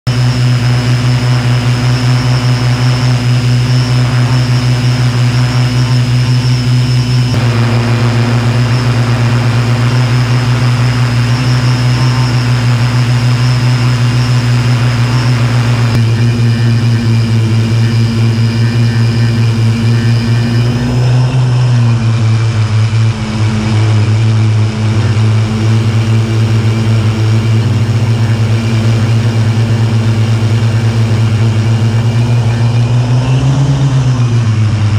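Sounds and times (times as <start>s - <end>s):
drone propellers droning: 0.0s - 34.9s.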